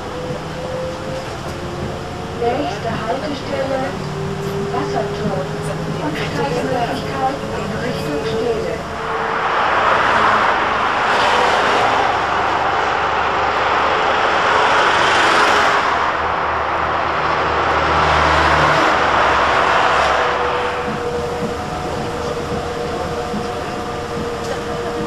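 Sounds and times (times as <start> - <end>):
heavy road traffic: 0.0 - 25.0
heavy vehicle engine hum: 0.0 - 25.0.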